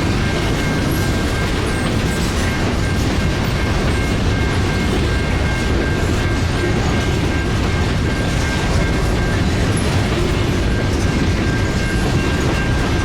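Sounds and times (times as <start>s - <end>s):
train cars rolling past: 0.0s - 13.0s
wheels clattering over rails: 0.0s - 13.0s.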